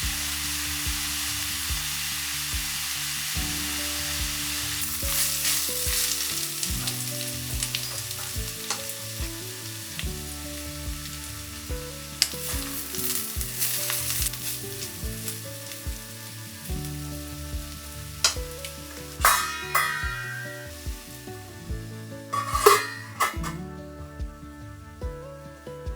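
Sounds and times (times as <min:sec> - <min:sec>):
oil sizzling in a pan: 0:00.0 - 0:23.8.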